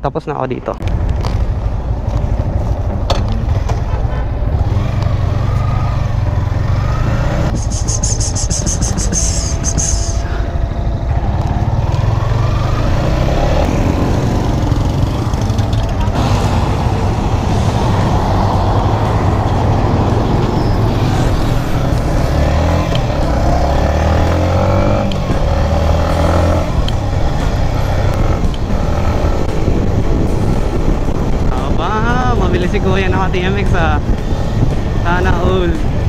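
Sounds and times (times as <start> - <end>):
road and wind noise: 0.0 - 36.0
motorcycle engine accelerating: 0.8 - 36.0.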